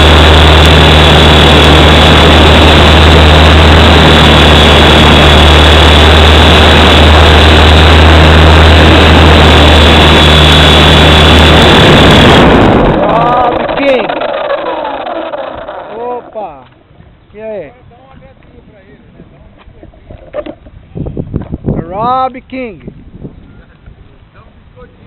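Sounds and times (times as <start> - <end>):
helicopter rotor drone: 0.0 - 20.6
high motor whine: 0.0 - 25.0.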